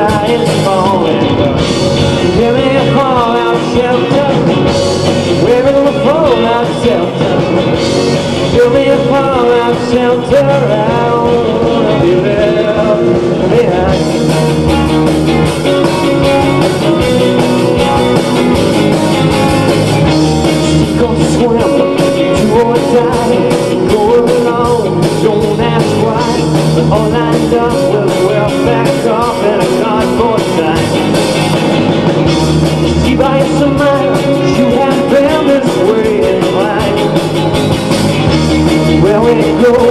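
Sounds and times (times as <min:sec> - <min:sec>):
bass guitar: 0:00.0 - 0:39.9
drums: 0:00.0 - 0:39.9
electric guitars: 0:00.0 - 0:39.9.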